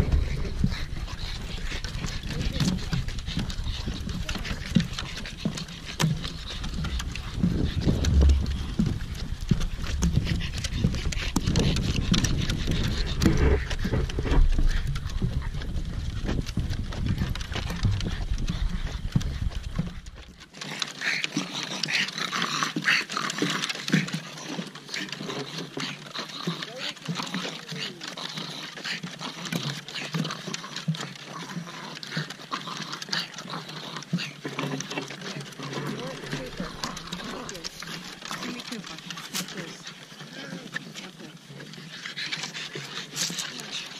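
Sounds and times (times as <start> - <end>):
dog panting heavily: 0.0 - 43.9
footsteps on wooden boardwalk: 0.0 - 43.9.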